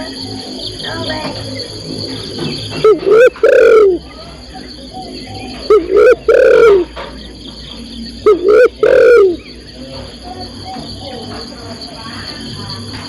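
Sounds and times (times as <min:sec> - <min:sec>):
dove cooing: 0:00.0 - 0:11.6.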